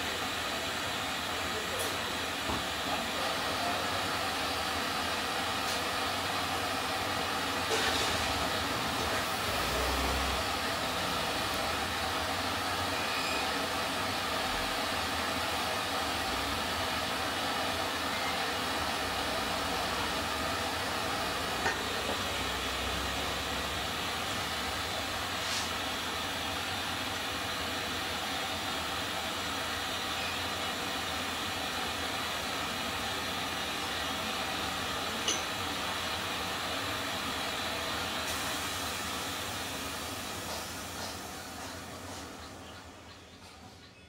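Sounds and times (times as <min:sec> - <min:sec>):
steady hiss: 0:00.0 - 0:42.8.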